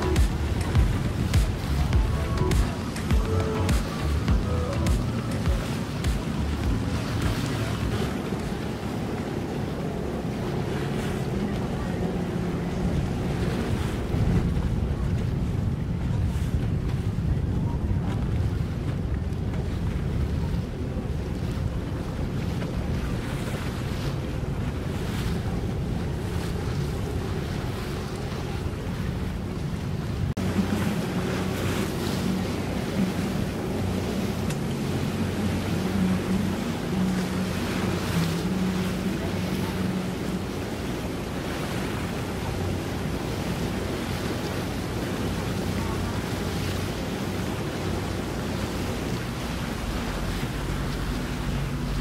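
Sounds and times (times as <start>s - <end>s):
boat motors humming: 0.0s - 52.0s
water lapping: 0.0s - 52.0s
wind rumbling on microphone: 0.0s - 52.0s.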